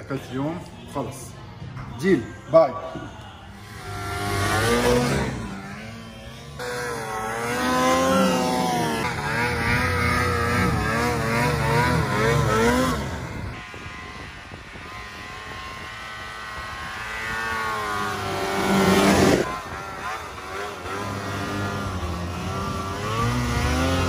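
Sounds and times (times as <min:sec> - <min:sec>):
snowmobile engine revving: 0:03.6 - 0:24.0.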